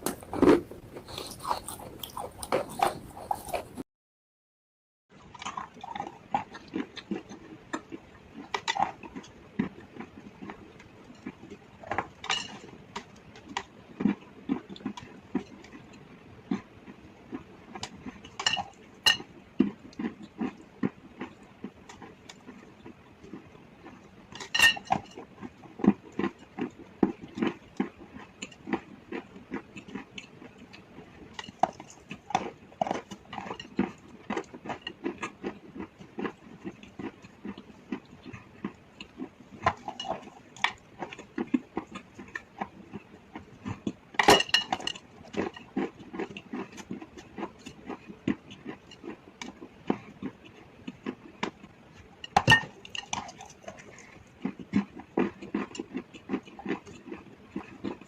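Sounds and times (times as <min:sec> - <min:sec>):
person chewing and crunching chalk: 0:00.0 - 0:03.8, 0:05.2 - 0:58.0.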